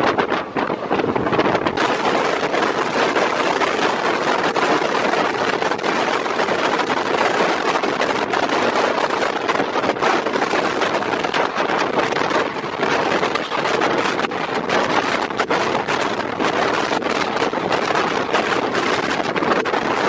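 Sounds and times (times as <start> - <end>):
train running noise: 0.0 - 20.0
wind buffeting microphone: 0.0 - 20.0.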